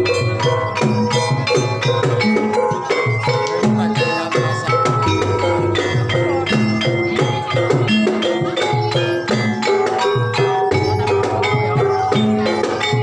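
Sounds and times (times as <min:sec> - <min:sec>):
drum strokes: 0:00.0 - 0:13.0
tuned mallet percussion: 0:00.0 - 0:13.0.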